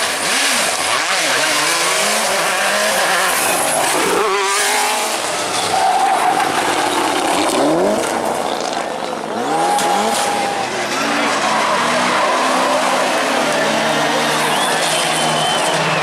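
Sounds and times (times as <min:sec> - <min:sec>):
rally car engine accelerating: 0:00.0 - 0:16.0
tyres skidding: 0:00.0 - 0:16.0.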